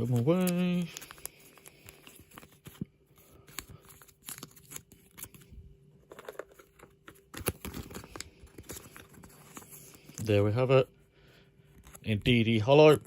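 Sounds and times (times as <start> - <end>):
cards rustling and crinkling: 0.0 - 13.0.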